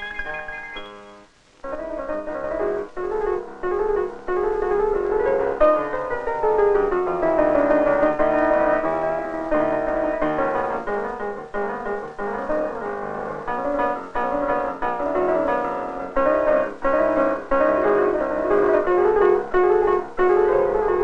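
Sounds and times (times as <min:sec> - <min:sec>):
lively solo piano: 0:00.0 - 0:21.0.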